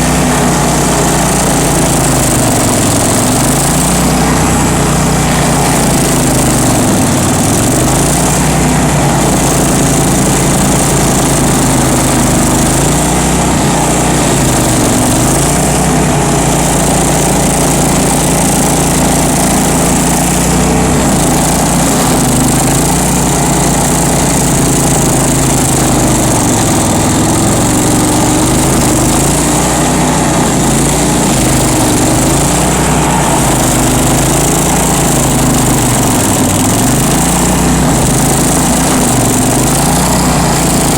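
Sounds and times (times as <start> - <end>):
stump grinder engine running: 0.0 - 40.9.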